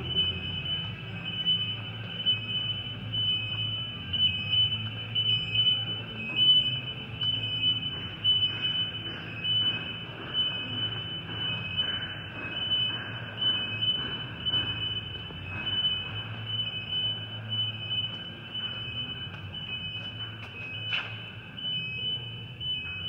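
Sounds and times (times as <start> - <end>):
electronic alarm beeping: 0.0 - 23.0
faint footsteps: 0.0 - 23.0.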